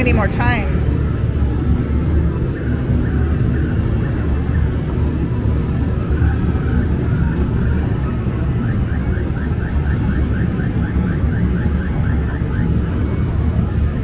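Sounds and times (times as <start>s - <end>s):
low rumble of busy arcade: 0.0s - 14.0s.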